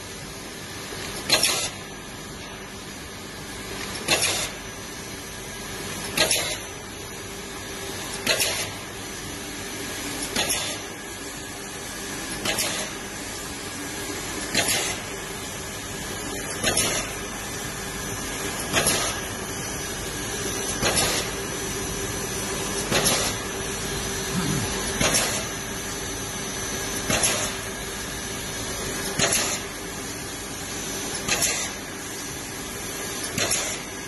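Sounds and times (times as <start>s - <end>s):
machine hum and hiss: 0.0s - 34.0s.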